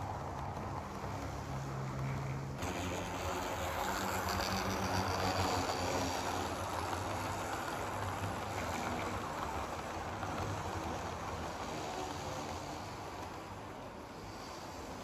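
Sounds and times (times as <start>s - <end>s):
model train wheels rattling on rails: 0.0s - 15.0s.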